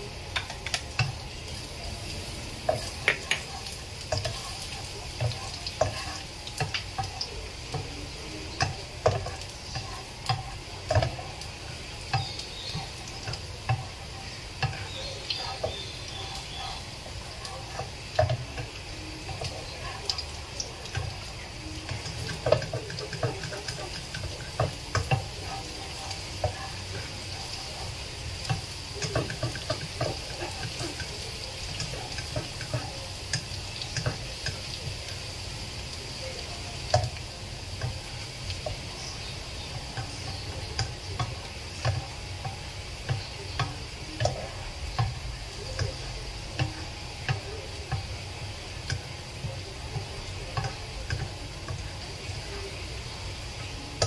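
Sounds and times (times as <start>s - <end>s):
garlic sizzling in oil: 0.0s - 54.0s.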